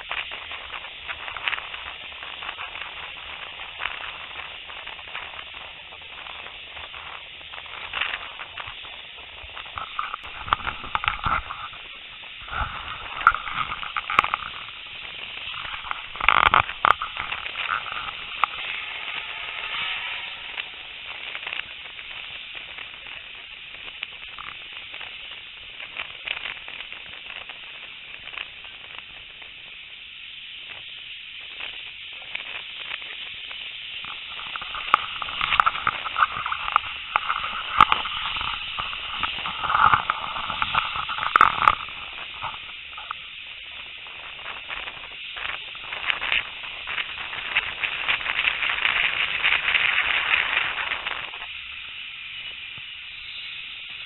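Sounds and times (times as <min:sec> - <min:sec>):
clicks and knocks of wheels: 0:00.0 - 0:54.0
steam train running: 0:00.0 - 0:54.0.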